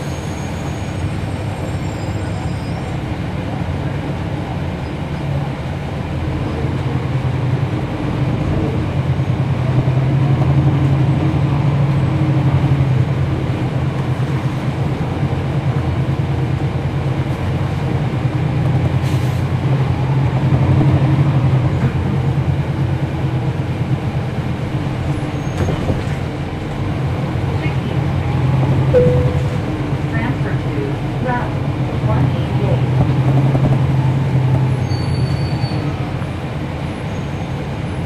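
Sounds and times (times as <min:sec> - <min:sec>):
bus diesel engine humming: 0:00.0 - 0:38.0.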